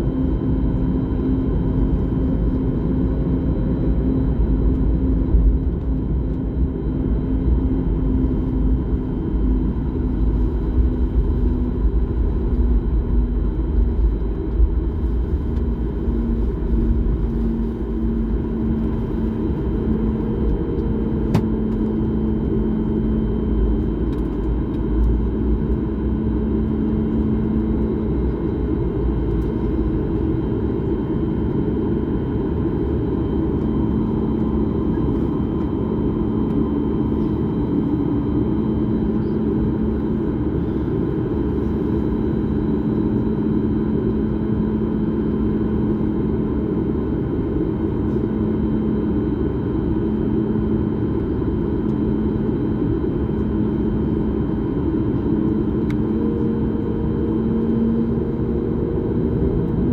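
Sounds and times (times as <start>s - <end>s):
faint constant hum: 0.0s - 59.9s
jet engine rumble: 0.0s - 59.9s.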